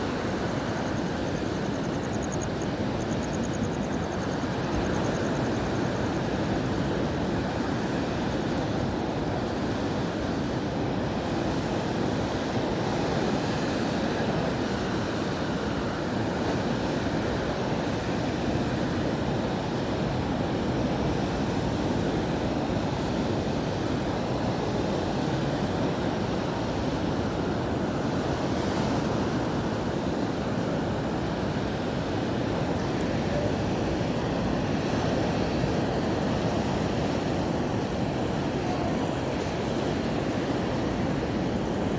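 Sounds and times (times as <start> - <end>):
ocean surf washing onto beach: 0.0 - 41.9.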